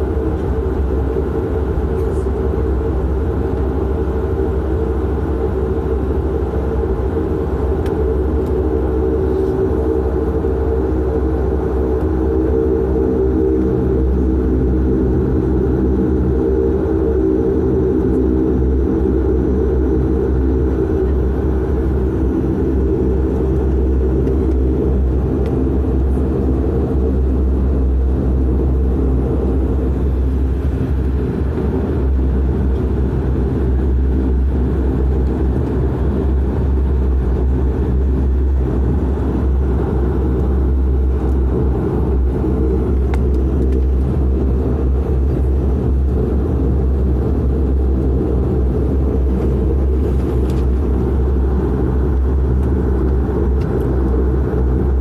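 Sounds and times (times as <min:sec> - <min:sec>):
deep hum: 0:00.0 - 0:55.0
propeller drone: 0:00.0 - 0:55.0.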